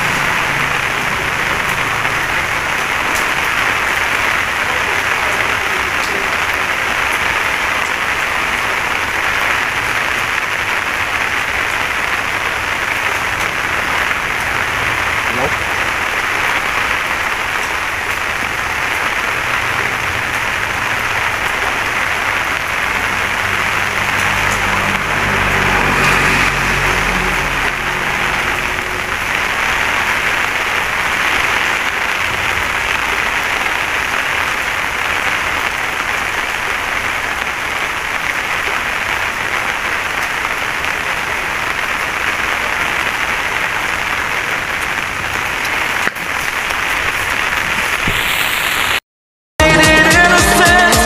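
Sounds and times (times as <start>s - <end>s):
rain falling on leaves: 0.0s - 49.0s.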